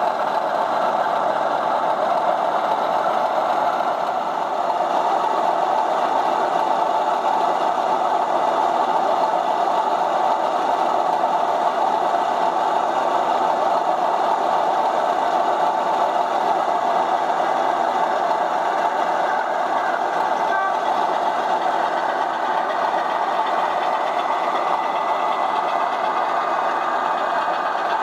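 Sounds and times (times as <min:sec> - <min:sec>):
diesel engine running sound: 0:00.0 - 0:28.0.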